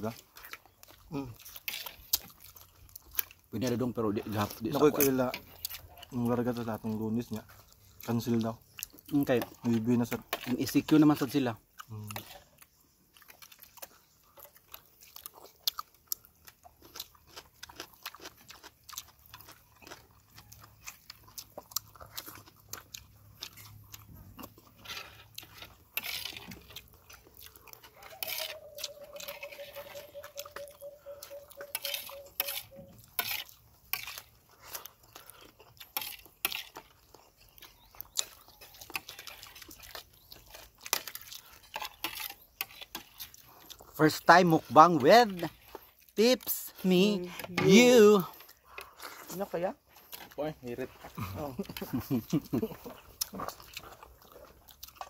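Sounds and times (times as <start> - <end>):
chewing and lip smacks: 0.0 - 46.8, 48.3 - 55.0.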